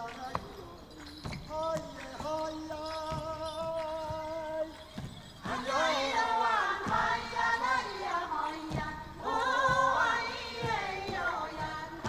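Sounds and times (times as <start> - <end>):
feet stamping: 0.0 - 12.0
group singing unaccompanied: 1.6 - 12.0.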